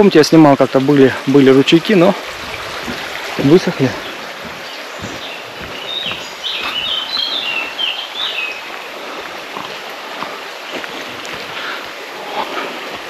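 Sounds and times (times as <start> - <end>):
songbird chirping: 0.9 - 13.0.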